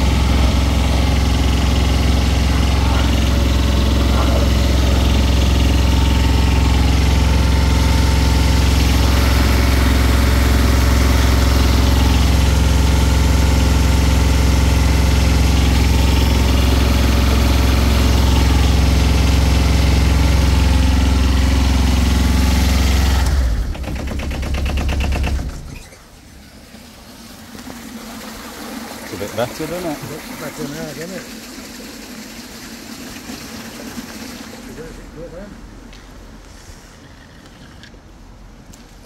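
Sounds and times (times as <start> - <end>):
engine running and chugging down: 0.0 - 35.8.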